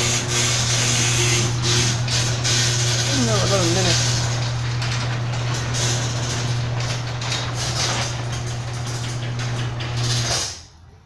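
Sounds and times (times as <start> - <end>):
garage door opener motor hum: 0.0 - 10.9
rough rattling: 0.4 - 10.7.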